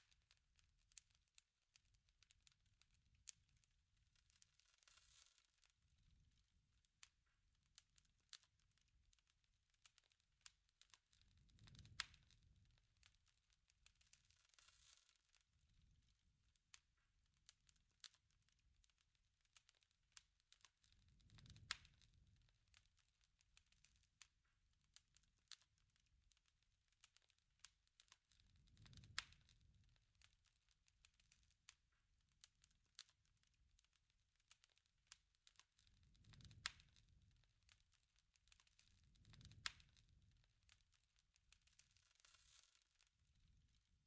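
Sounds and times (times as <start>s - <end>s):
soft low rush of fire: 0.0s - 44.0s
wood fire crackling and popping: 0.0s - 44.0s.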